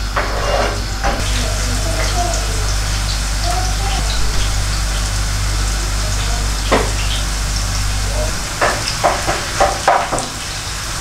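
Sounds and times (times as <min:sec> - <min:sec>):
low hum: 0:00.0 - 0:11.0
sauce bubbling and sizzling: 0:01.1 - 0:11.0.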